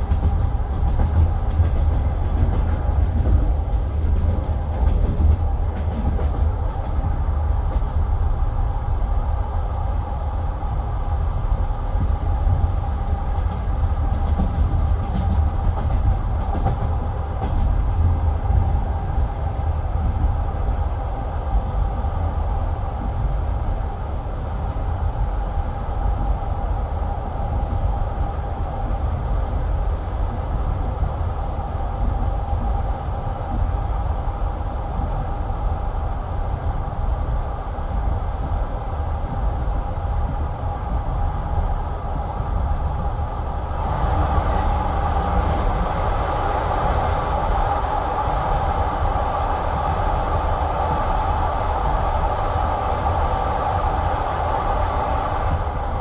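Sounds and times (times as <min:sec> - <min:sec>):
train carriage rumbling: 0:00.0 - 0:56.0.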